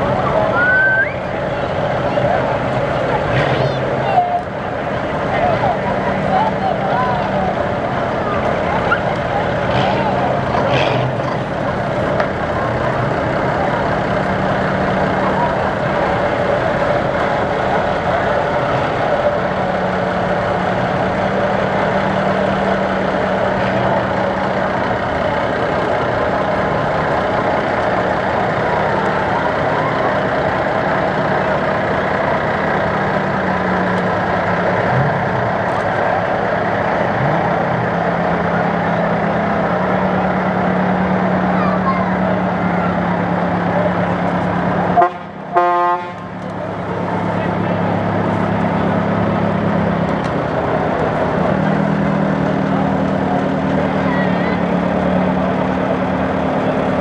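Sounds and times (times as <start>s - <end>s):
car engine hum: 0.0s - 57.0s.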